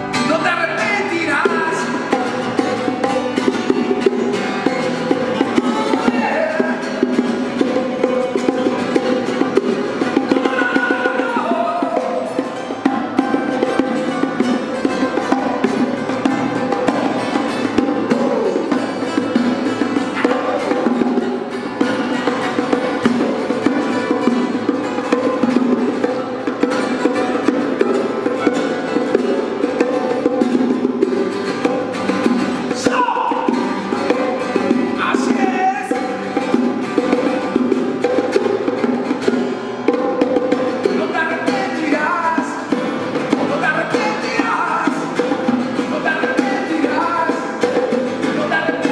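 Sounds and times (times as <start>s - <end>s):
acoustic guitars strummed: 0.0s - 48.9s
bongos played by hand: 0.0s - 48.9s.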